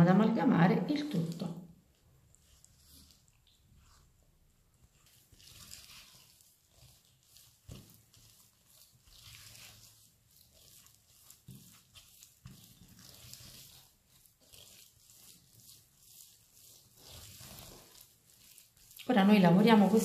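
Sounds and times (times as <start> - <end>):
spatula stirring dough in bowl: 0.0 - 20.0.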